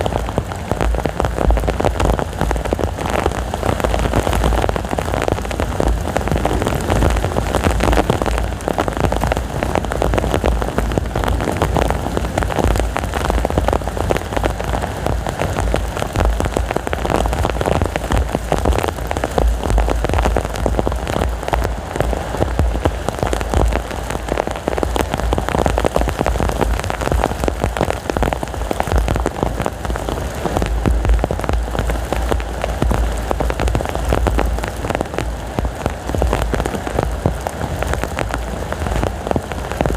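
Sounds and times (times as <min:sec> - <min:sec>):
heavy rain falling: 0:00.0 - 0:39.9
strong wind rumble: 0:00.0 - 0:39.9.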